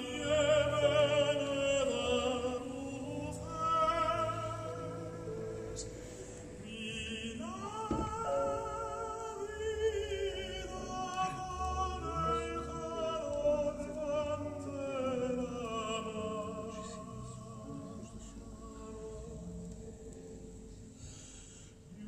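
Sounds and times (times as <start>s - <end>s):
operatic singing over loudspeakers: 0.0s - 20.6s.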